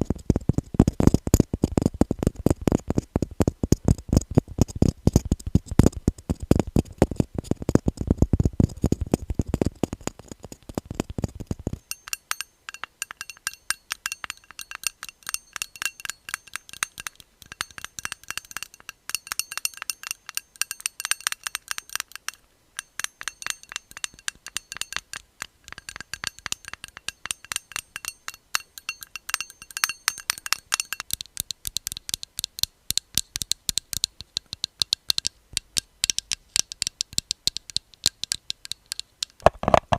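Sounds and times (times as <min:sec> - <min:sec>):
fingernail tapping on objects: 0:00.0 - 0:39.9.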